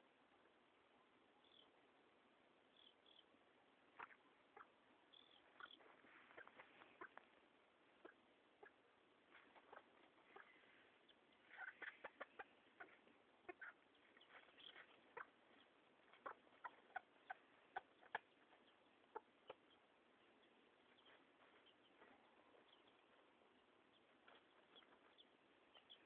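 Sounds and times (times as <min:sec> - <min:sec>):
hen clucking: 0:03.9 - 0:26.0.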